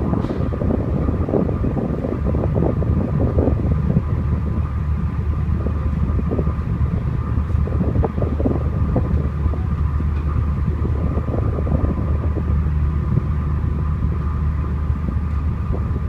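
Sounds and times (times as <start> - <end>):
constant hum: 0.0 - 16.0
ship machinery rumble: 0.0 - 16.0
wind buffeting microphone: 0.0 - 16.0.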